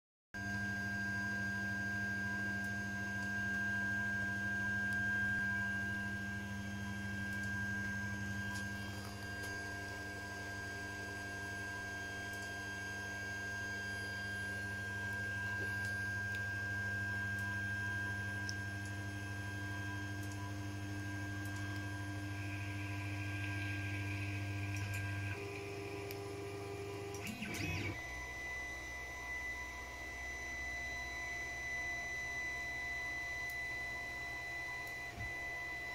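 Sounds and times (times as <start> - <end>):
printer fans and motors whining: 0.4 - 35.9.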